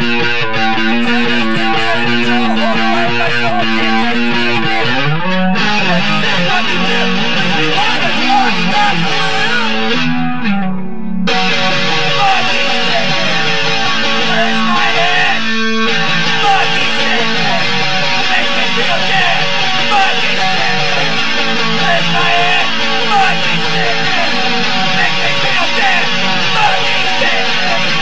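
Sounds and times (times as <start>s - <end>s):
electric guitar playing: 0.0s - 28.0s
man singing: 0.6s - 10.0s, 11.6s - 28.0s.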